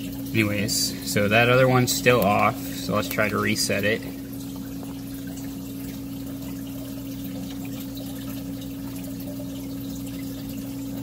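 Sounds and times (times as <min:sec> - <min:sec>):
pumps humming: 0:00.0 - 0:11.0
water trickling and splashing: 0:00.0 - 0:11.0.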